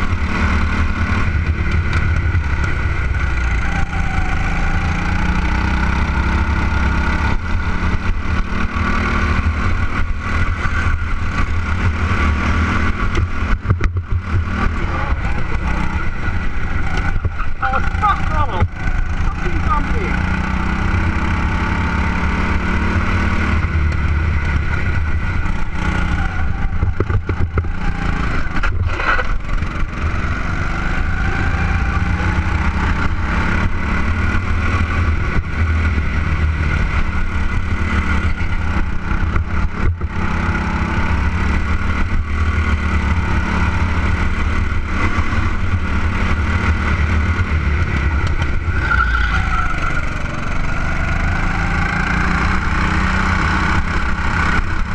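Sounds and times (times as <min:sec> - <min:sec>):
go-kart engine running hard: 0:00.0 - 0:54.9.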